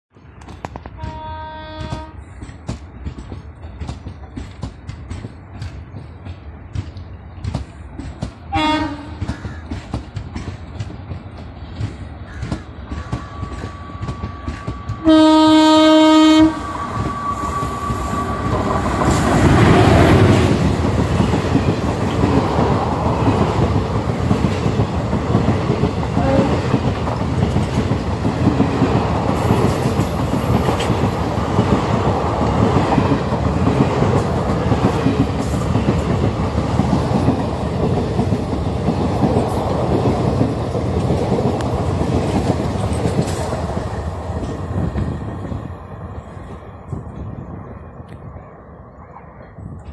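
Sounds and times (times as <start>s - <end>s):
train passing at speed: 0.1s - 49.9s.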